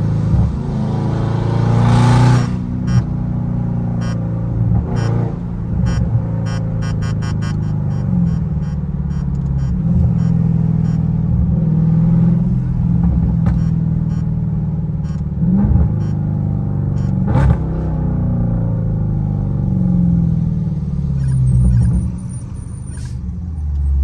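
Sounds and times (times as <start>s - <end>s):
car exhaust drone from inside cabin: 1.8s - 24.0s.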